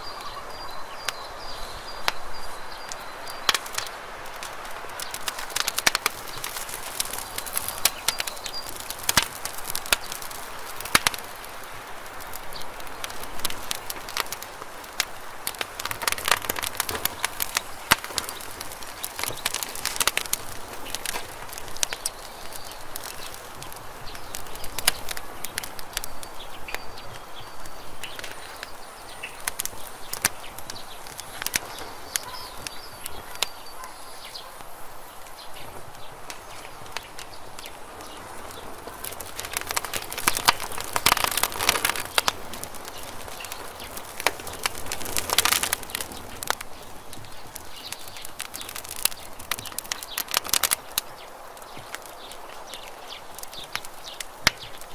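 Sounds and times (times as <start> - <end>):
campfire crackling and popping: 0.0 - 54.9
soft fire hiss: 0.0 - 54.9.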